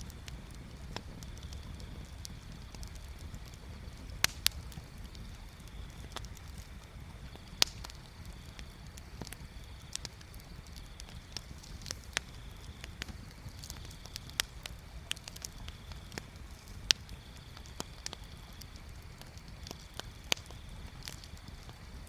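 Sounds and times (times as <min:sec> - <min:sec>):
bonfire crackling and popping: 0:00.0 - 0:22.0
low steady fire rumble: 0:00.0 - 0:22.0.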